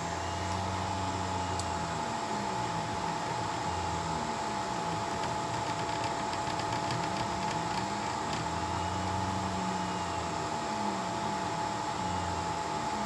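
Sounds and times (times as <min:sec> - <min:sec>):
cooling fan whirring: 0:00.0 - 0:13.0
stepper motors humming: 0:00.0 - 0:13.0.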